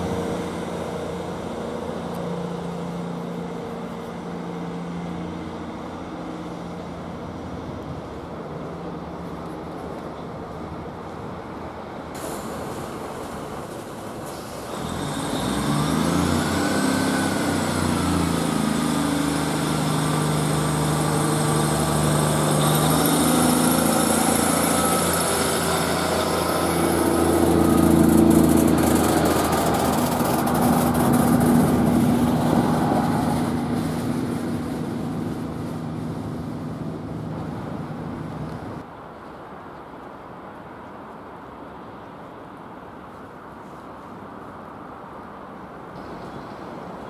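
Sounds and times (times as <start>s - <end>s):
diesel train engines revving: 0.0s - 38.9s.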